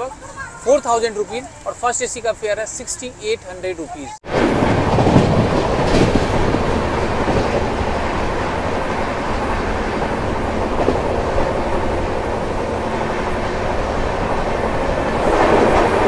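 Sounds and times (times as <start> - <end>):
train wheel and track noise: 0.0 - 16.0
wheels clicking over rail joints: 0.0 - 16.0.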